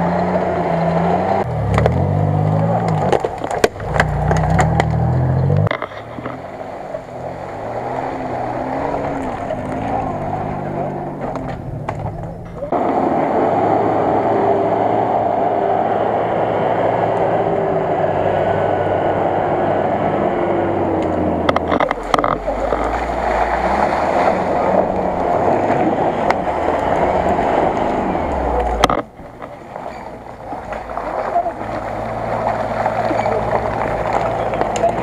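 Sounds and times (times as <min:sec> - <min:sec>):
off-road vehicle engines revving: 0:00.0 - 0:35.0.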